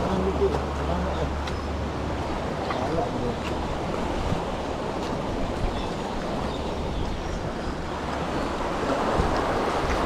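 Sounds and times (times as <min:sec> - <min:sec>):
motorboat rumble and rushing: 0:00.0 - 0:10.0
wind on microphone: 0:00.0 - 0:10.0.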